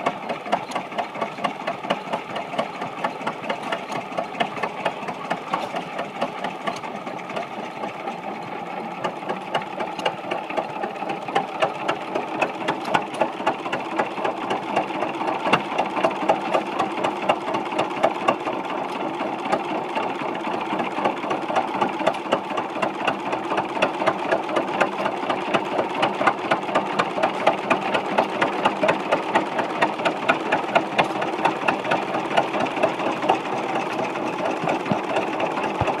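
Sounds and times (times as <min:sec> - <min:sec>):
oil engine knocking: 0:00.0 - 0:36.0.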